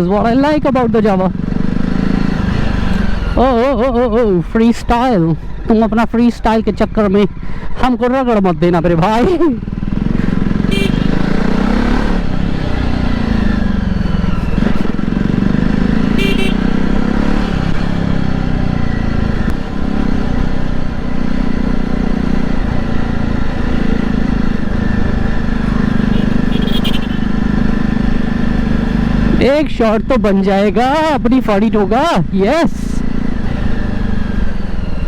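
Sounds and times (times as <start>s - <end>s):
motorcycle engine revving: 0.0s - 7.4s, 8.0s - 35.0s.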